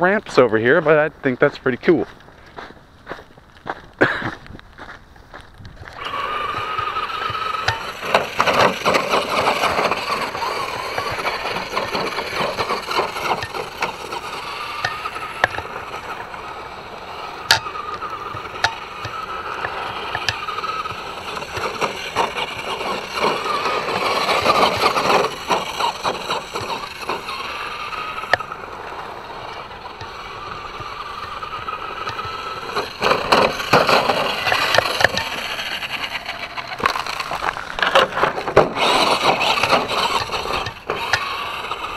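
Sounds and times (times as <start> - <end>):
tyres crunching on gravel: 0.0 - 41.9
electric motor whining: 5.8 - 41.9.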